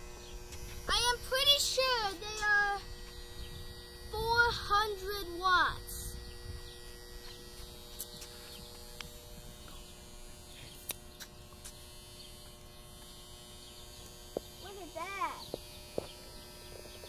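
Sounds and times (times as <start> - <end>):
floodlights electrical hum: 0.0 - 17.0.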